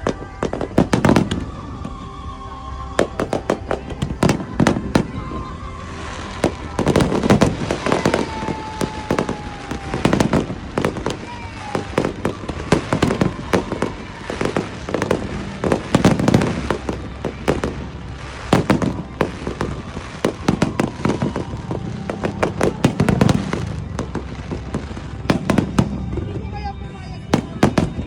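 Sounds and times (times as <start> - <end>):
fireworks bangs and crackles: 0.0 - 28.0
heavy fireworks booms: 0.0 - 28.0.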